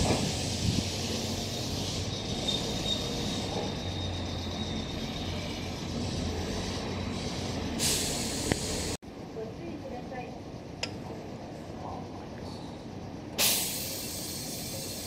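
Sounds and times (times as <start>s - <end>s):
electric train rumbling on track: 0.0s - 15.0s.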